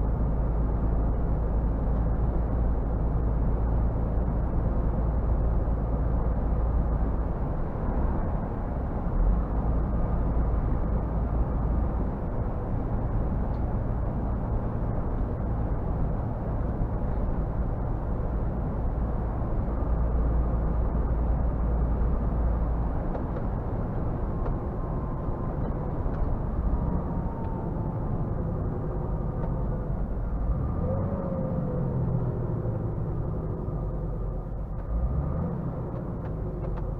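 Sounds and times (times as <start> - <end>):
road and tyre noise: 0.0 - 36.9
truck diesel engine driving: 0.0 - 36.9.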